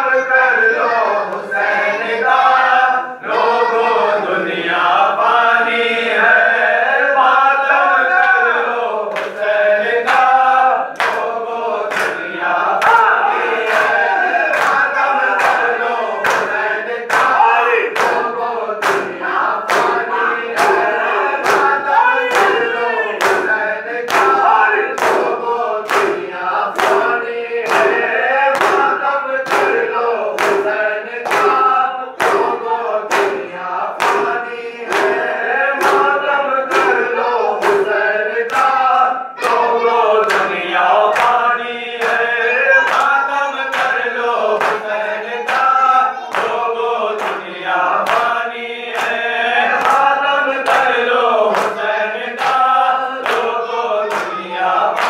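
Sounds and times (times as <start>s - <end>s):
men chanting in chorus: 0.0s - 55.0s.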